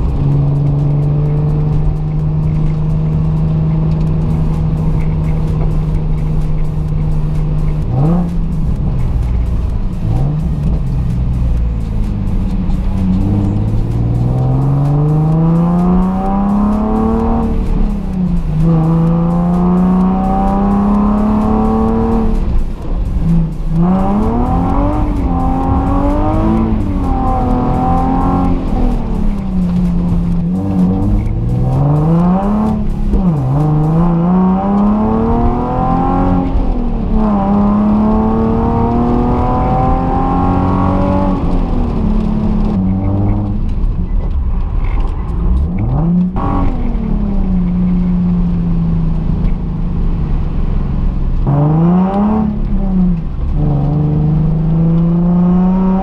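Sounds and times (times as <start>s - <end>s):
car engine revving while driving: 0.0s - 56.0s.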